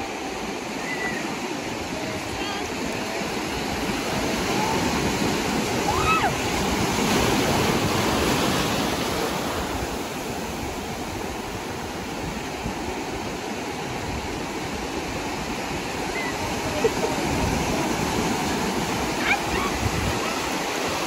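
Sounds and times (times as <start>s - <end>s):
sea surf breaking on shore: 0.0s - 21.0s.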